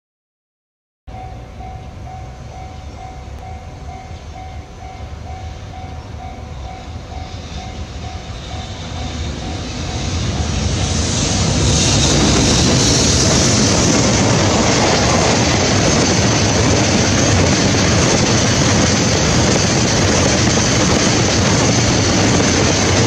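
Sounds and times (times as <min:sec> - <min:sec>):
freight train rumble: 0:01.1 - 0:23.0.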